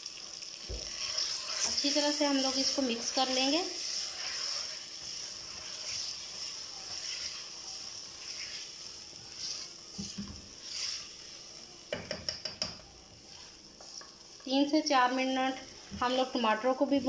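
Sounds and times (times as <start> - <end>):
food sizzling in oil: 0.0 - 17.0
spatula stirring in pot: 0.3 - 14.5.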